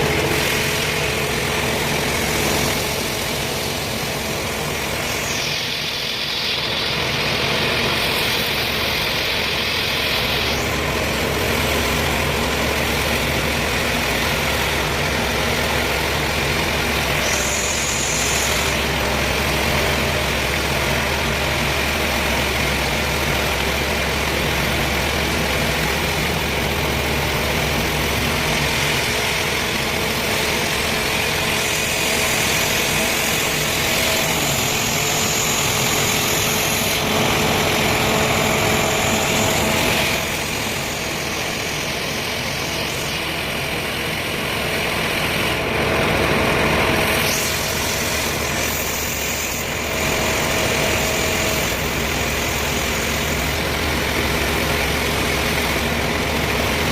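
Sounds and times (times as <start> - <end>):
engine-driven saw cutting log: 0.0 - 56.9.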